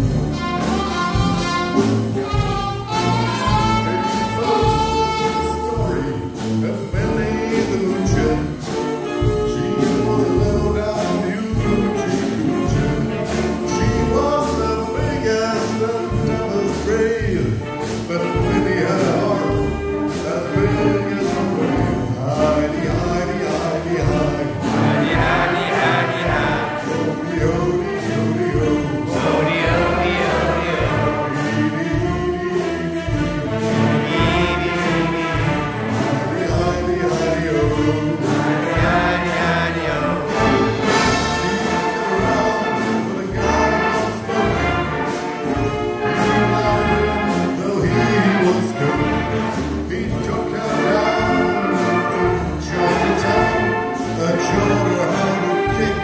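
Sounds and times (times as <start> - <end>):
steady drum beat: 0.0 - 56.0
wind band playing: 0.0 - 56.0.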